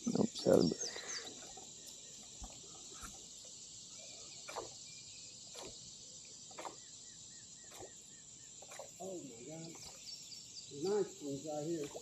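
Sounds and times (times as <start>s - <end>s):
faint insect trilling: 0.0s - 12.0s.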